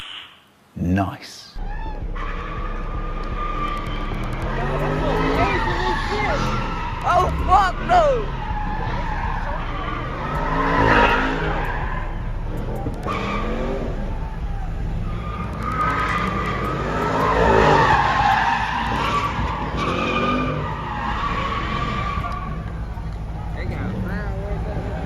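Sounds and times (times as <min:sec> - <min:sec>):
car engine revving: 0:01.6 - 0:25.0
tyres squealing and skidding: 0:01.6 - 0:25.0.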